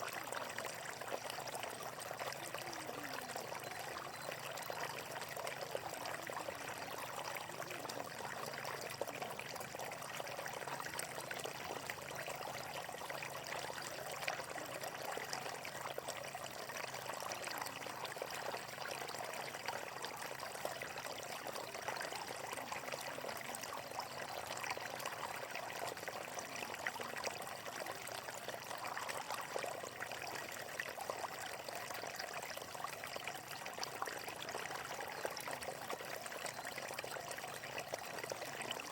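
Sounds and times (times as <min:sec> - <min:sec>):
water flowing and splashing: 0:00.0 - 0:38.9.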